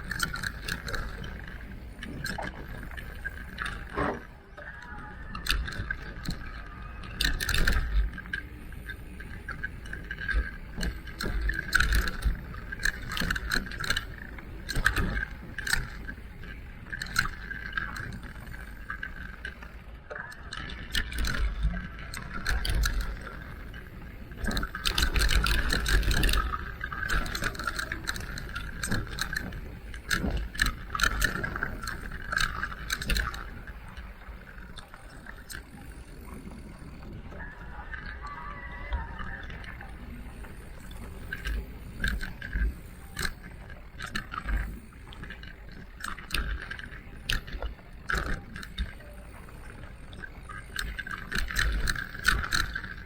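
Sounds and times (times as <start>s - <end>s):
bike knocking and rattling: 0.0s - 4.5s, 5.2s - 19.8s, 20.4s - 38.0s, 39.4s - 53.0s
electric bike drive whine: 0.0s - 53.0s.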